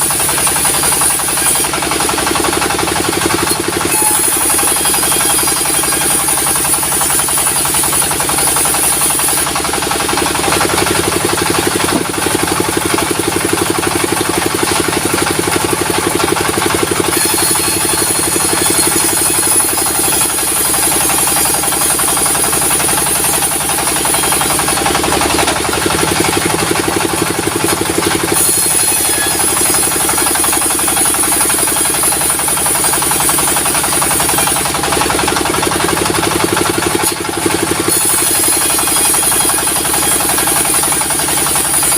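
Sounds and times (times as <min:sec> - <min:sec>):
saw blade cutting log: 0:00.0 - 0:41.9
sawmill engine running: 0:00.0 - 0:41.9.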